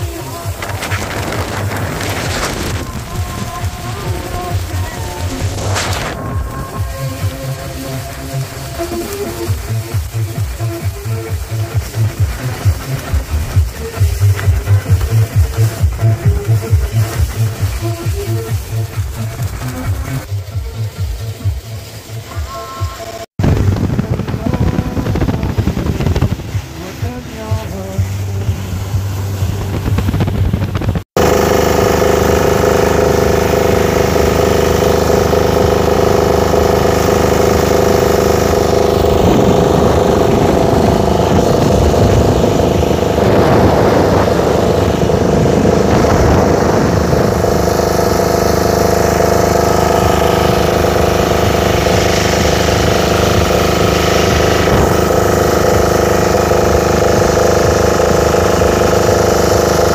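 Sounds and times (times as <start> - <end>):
boat engines droning: 0.0 - 59.9
water rushing past hull: 0.0 - 59.9.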